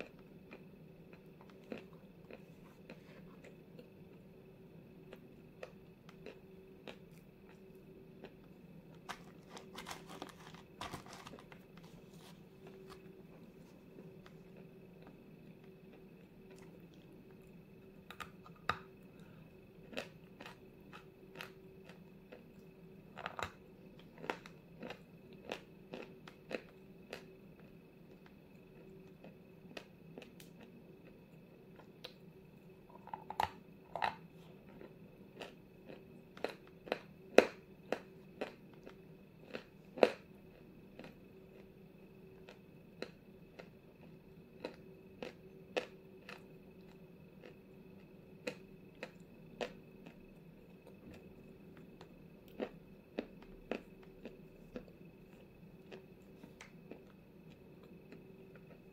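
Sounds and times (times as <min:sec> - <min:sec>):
crunching and chewing chalk: 0:00.0 - 0:58.9
faint steady hum: 0:00.0 - 0:58.9.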